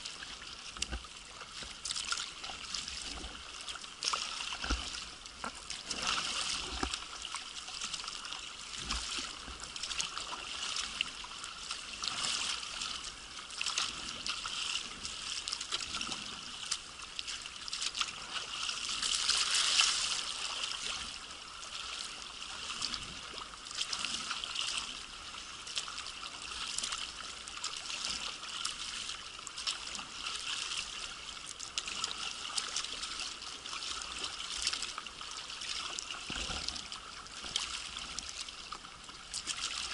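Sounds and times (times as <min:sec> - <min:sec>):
sea water splashing and rushing: 0:00.0 - 0:39.9.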